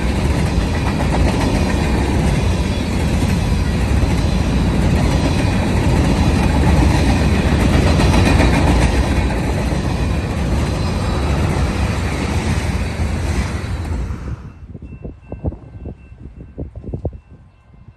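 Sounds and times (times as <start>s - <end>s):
freight train wheels rumbling on rail: 0.0s - 17.9s.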